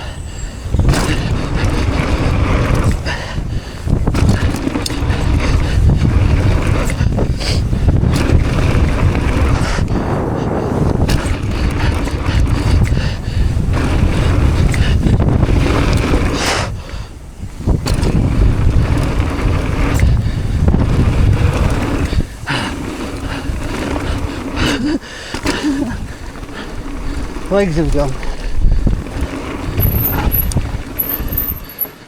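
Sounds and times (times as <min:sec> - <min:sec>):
bike clacks and rattles: 0:00.0 - 0:32.0
wind buffeting microphone: 0:00.0 - 0:32.0.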